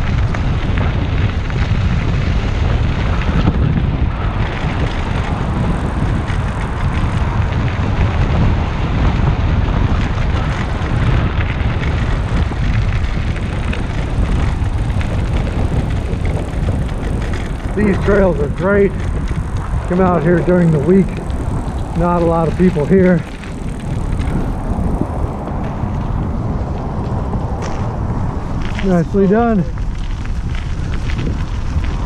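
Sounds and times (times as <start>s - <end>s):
tyres crunching on dirt trail: 0.0s - 32.0s
wind on microphone: 0.0s - 32.0s.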